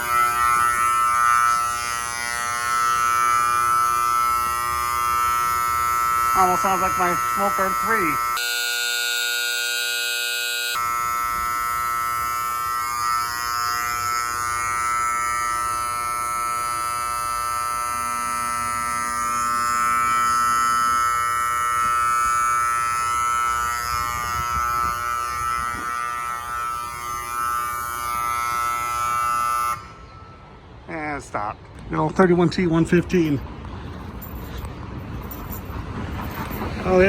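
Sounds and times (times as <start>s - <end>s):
fire alarm horn buzzing: 0.0s - 30.8s.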